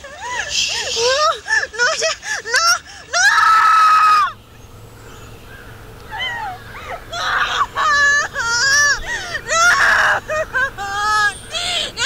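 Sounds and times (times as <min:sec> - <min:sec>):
woman screaming: 0:00.0 - 0:04.4, 0:06.1 - 0:12.0
woman wailing: 0:00.0 - 0:04.4, 0:06.1 - 0:12.0.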